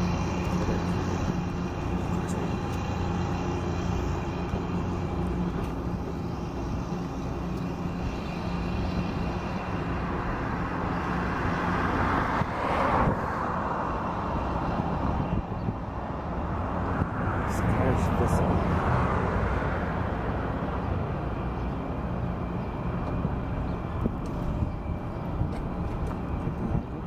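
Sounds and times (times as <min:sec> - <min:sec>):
city traffic noise: 0:00.0 - 0:27.0
low engine hum: 0:00.0 - 0:27.0.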